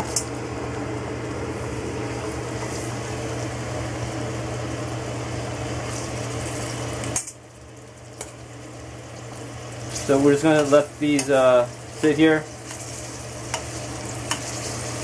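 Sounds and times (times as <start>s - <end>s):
steady mechanical hum: 0.0s - 15.0s
shrimp sizzling in a pan: 2.3s - 15.0s.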